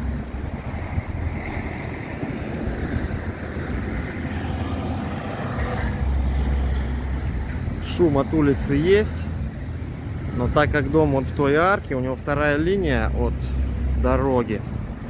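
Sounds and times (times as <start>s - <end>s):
street traffic: 0.0s - 15.0s
wind rumble on microphone: 0.0s - 15.0s.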